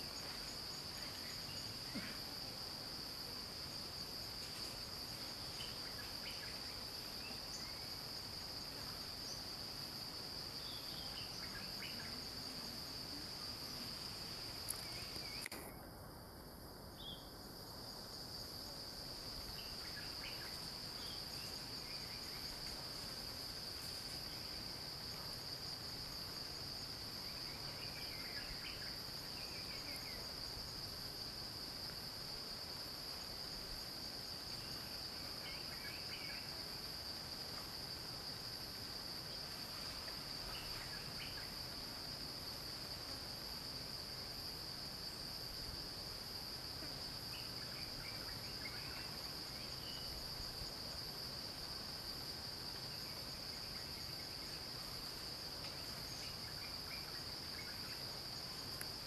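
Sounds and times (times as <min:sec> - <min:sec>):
insect drone: 0:00.0 - 0:59.0.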